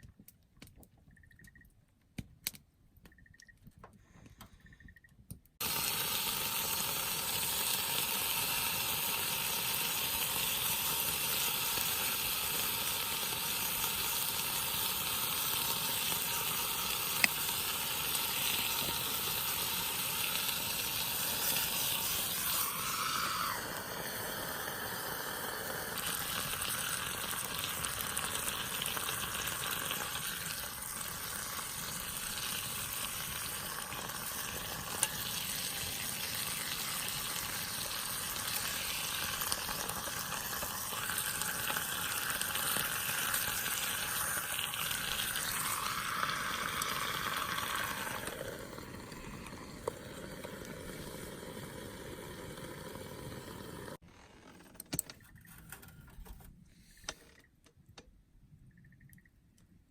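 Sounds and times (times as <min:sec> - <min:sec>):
food sizzling in a pan: 0:05.6 - 0:54.0.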